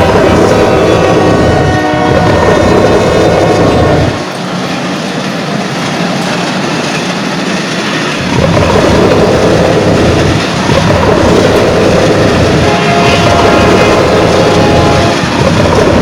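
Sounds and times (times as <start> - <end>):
deep train rumble: 0.0 - 16.0
train wheels clattering on rails: 0.0 - 16.0.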